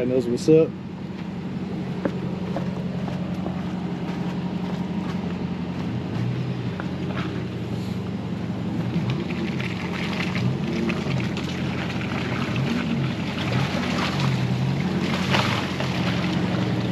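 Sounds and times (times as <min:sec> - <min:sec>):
vehicle engine running low: 0:00.0 - 0:16.9.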